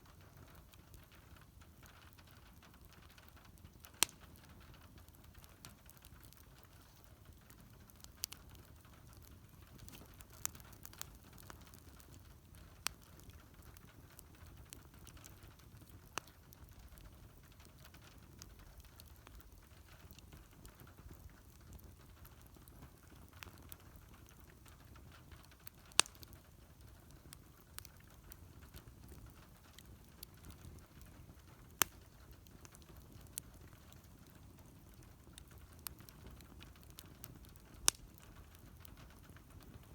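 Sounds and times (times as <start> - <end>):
wood fire crackles and pops: 0.0 - 39.9.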